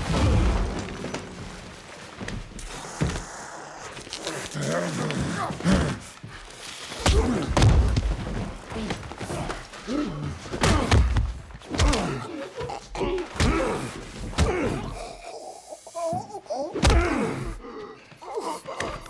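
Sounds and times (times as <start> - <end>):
men grunting and gasping: 2.6 - 7.6, 8.7 - 19.0.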